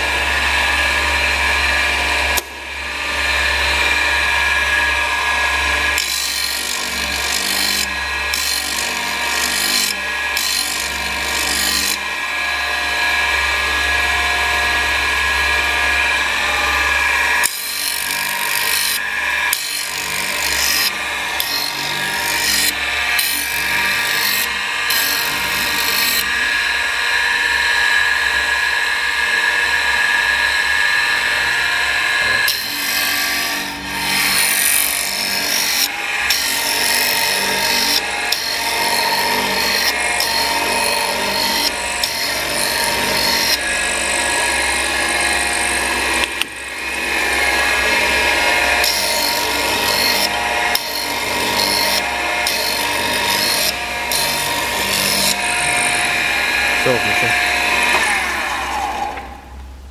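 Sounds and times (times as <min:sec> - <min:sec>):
electric motor hum: 0:00.0 - 0:59.8
grinding wheel rasping on steel: 0:03.8 - 0:12.2, 0:12.9 - 0:59.3.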